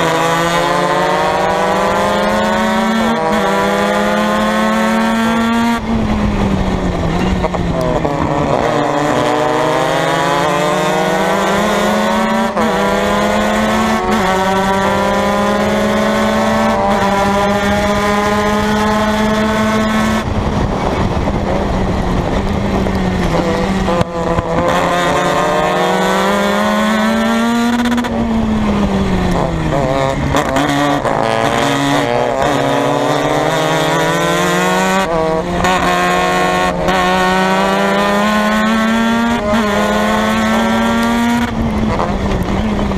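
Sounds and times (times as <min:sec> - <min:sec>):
race car engine at full throttle: 0:00.0 - 0:42.9.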